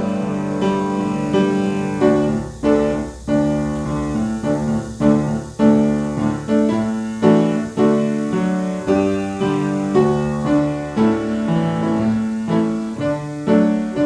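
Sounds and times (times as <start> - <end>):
slow piano playing: 0.0 - 14.0.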